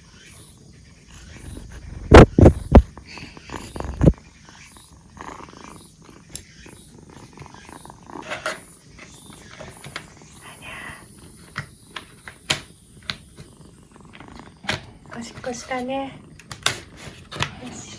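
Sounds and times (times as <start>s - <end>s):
kitten purring: 1.0s - 17.9s.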